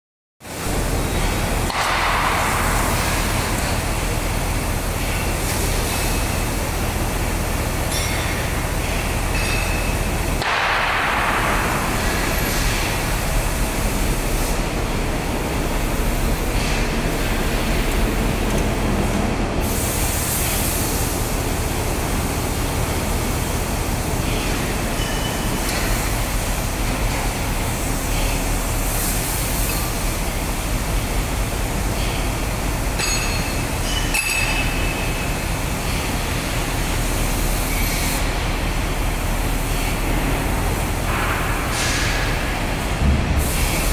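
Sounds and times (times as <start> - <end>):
crane engine droning: 0.6 - 43.9.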